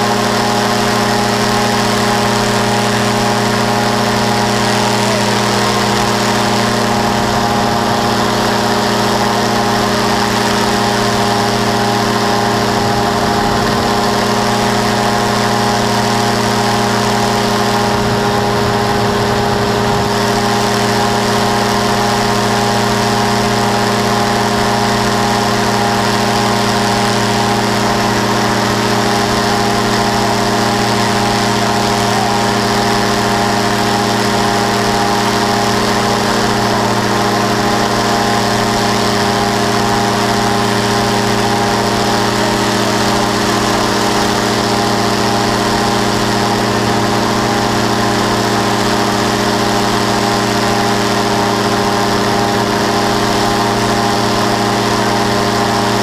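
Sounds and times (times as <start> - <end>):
engine and propeller drone: 0.0 - 56.0.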